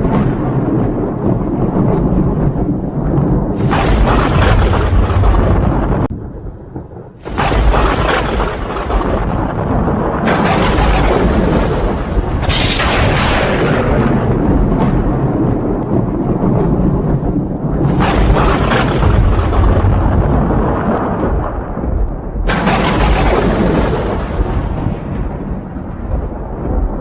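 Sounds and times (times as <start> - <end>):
thunder crack: 0.0 - 27.0
thunder rumbling: 0.0 - 27.0.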